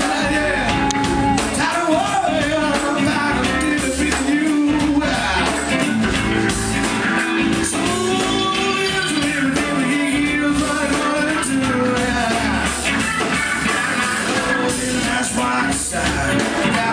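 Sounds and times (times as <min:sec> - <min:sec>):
rock music with singing: 0:00.0 - 0:16.9.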